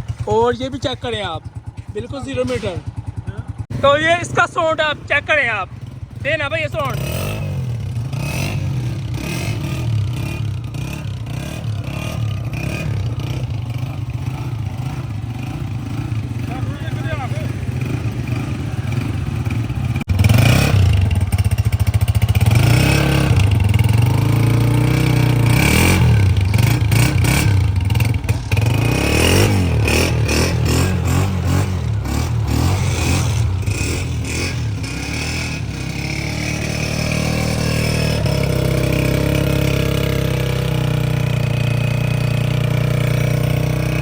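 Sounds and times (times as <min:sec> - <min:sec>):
motorcycle engine revving and idling: 0:00.0 - 0:44.0.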